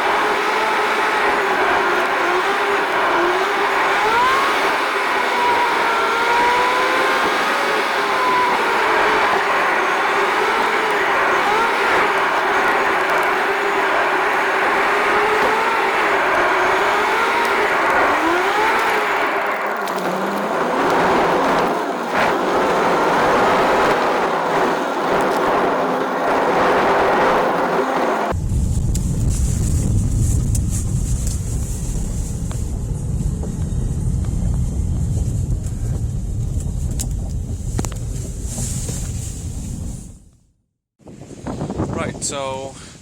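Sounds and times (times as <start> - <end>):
car engine and road noise: 0.0 - 40.4.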